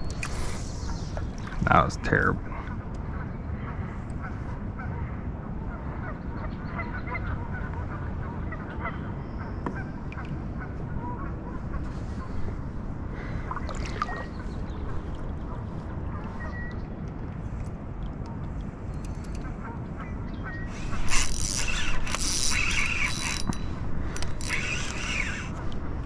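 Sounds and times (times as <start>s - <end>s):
birds calling: 0.0s - 17.0s, 18.3s - 26.0s.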